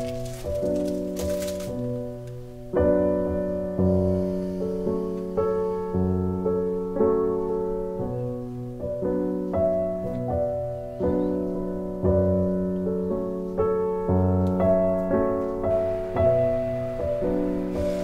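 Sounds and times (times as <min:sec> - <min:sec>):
slow gentle piano chords: 0:00.0 - 0:18.0.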